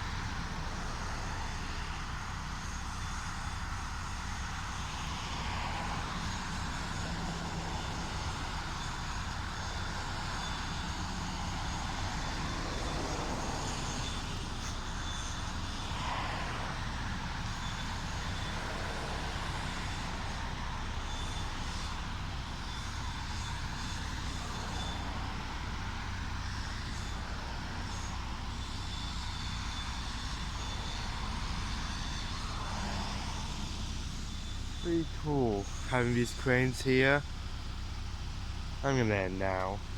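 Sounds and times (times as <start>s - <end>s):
distant road traffic rumble: 0.0s - 39.9s.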